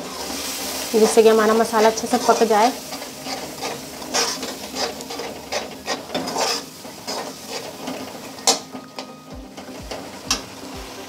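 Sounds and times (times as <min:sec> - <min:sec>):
metal spatula scraping a pan: 0:00.0 - 0:10.7
light sizzle of frying: 0:00.0 - 0:11.0.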